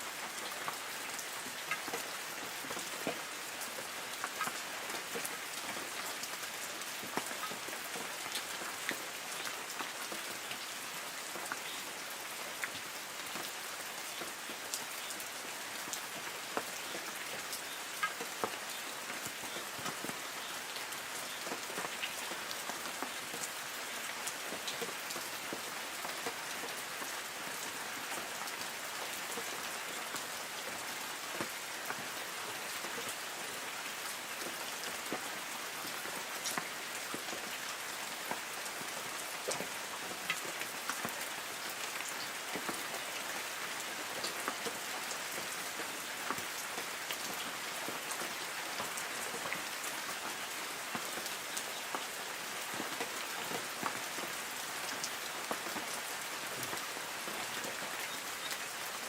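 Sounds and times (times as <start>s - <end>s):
rain hiss: 0.0s - 59.0s
raindrops ticking on leaves: 0.0s - 59.0s.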